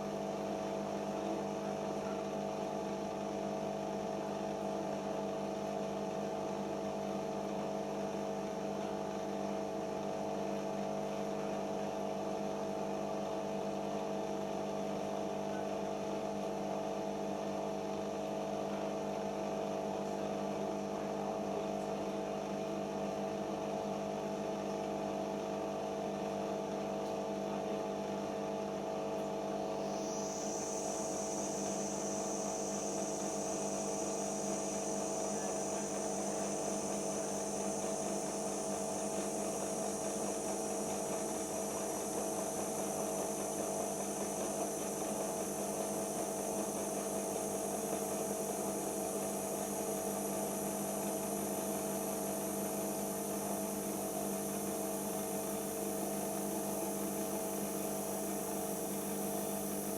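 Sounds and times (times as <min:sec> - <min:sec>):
washing machine spin hum and whine: 0:00.0 - 0:59.9.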